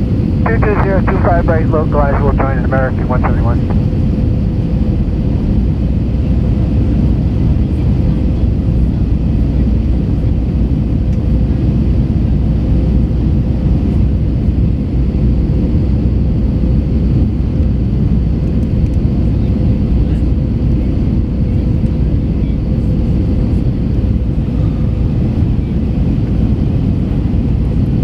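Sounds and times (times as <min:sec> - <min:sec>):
aircraft cabin engine rumble: 0:00.0 - 0:28.0
constant hum tone: 0:00.0 - 0:28.0.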